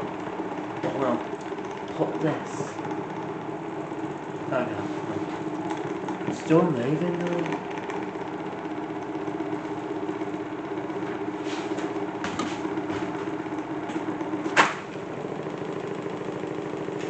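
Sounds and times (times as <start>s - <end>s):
small fan motor humming: 0.0s - 17.0s.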